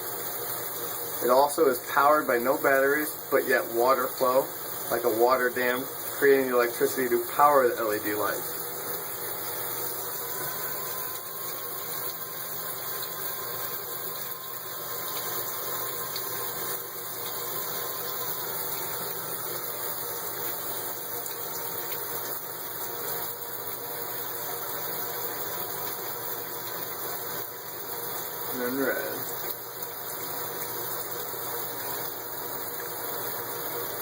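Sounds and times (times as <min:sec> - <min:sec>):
shower water spraying: 0:00.0 - 0:34.0.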